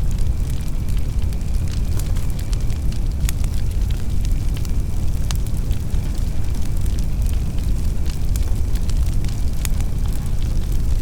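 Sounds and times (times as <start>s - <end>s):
fire flames rumbling: 0.0s - 11.0s
wood fire crackling and popping: 0.0s - 11.0s.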